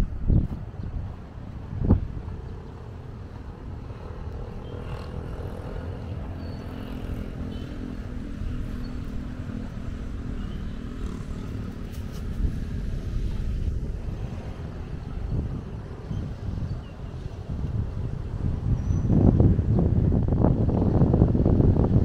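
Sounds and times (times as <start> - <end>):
distant vehicle engine hum: 0.0 - 21.8
wind buffeting microphone: 0.0 - 22.0.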